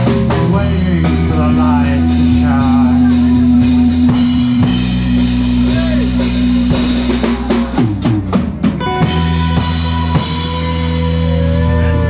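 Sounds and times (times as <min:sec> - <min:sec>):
drum fill: 0:00.0 - 0:11.5
guitar and bass chord: 0:00.0 - 0:12.0.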